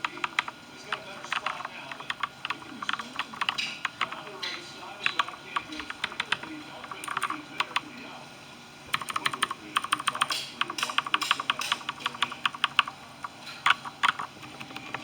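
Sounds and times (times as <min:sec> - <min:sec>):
typing on mechanical keyboard: 0:00.0 - 0:07.9, 0:08.9 - 0:15.0.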